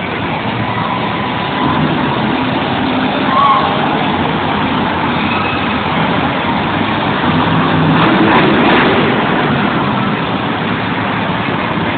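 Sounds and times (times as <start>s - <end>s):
monster truck engine running: 0.0s - 11.9s.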